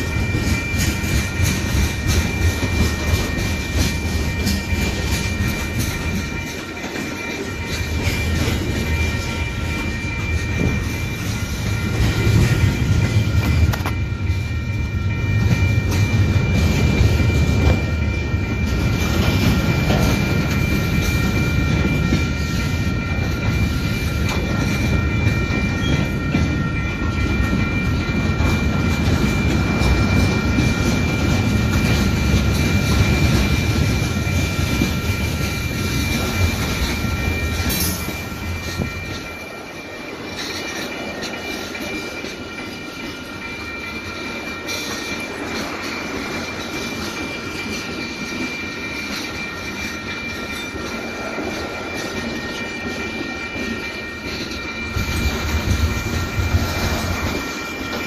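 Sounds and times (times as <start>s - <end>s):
low rumble of freight train: 0.0s - 58.0s
steady high tone: 0.0s - 58.0s
train wheels clattering on rails: 0.0s - 58.0s.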